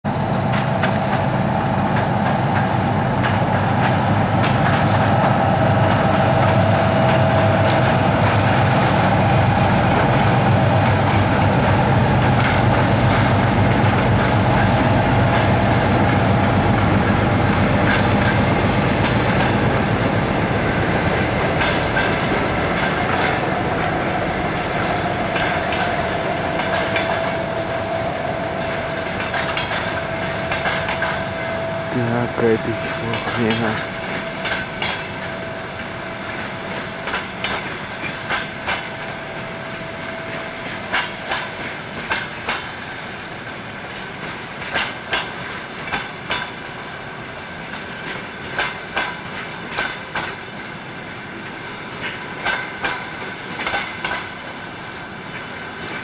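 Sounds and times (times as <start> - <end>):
diesel locomotive engine rumbling: 0.0 - 56.0
train wheels clattering over rail joints: 0.1 - 56.0.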